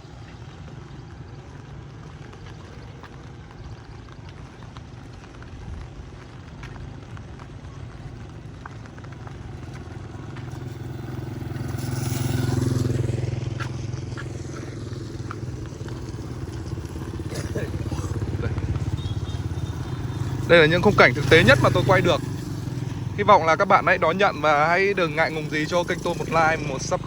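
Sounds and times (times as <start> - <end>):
rain on a street: 0.0 - 27.0
vehicle passing on wet road: 0.0 - 27.0.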